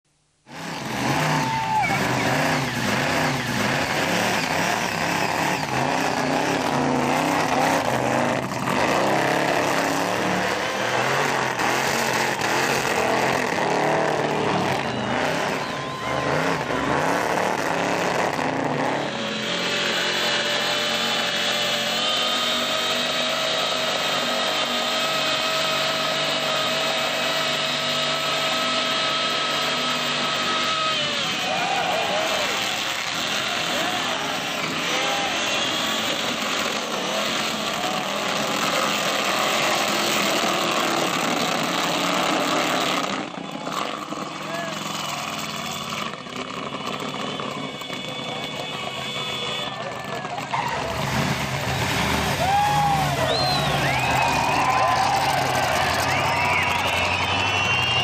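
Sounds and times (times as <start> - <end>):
car engine revving hard: 0.4 - 49.4, 50.4 - 58.0
spinning tyres scrubbing: 0.4 - 58.0.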